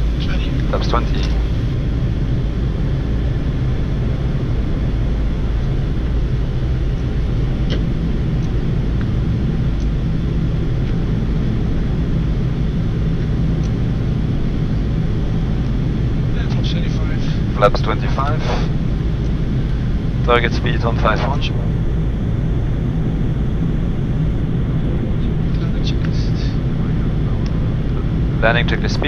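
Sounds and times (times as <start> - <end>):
cockpit airflow and engine rumble: 0.0 - 29.0.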